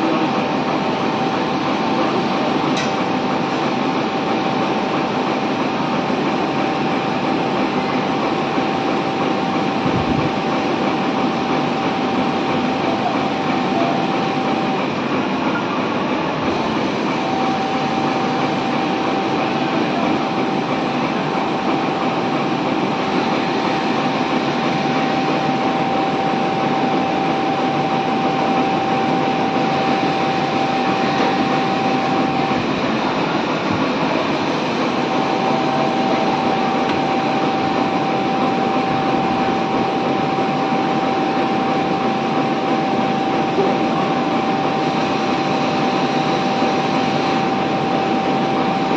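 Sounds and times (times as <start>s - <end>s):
sewing machine clatter and whine: 0.0s - 48.9s.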